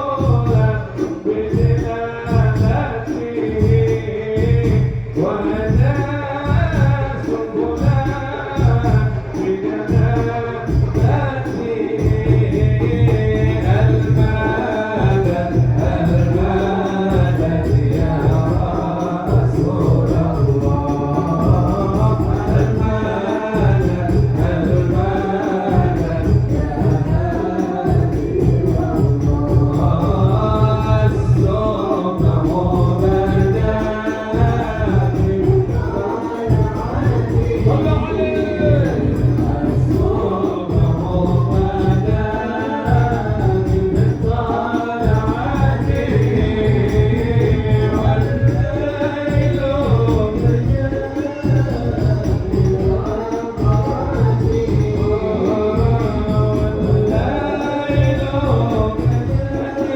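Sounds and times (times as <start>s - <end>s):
frame drums beating: 0.0s - 59.9s
man singing ornamented lines: 0.0s - 59.9s.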